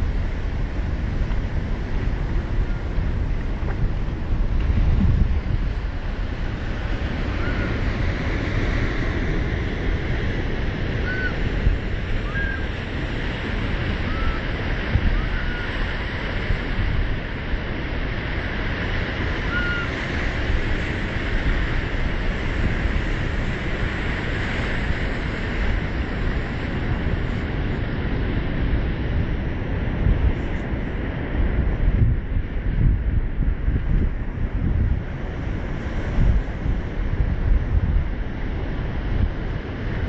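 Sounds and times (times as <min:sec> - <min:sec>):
surf washing over rocks: 0:00.0 - 0:40.0
wind buffeting microphone: 0:00.0 - 0:40.0.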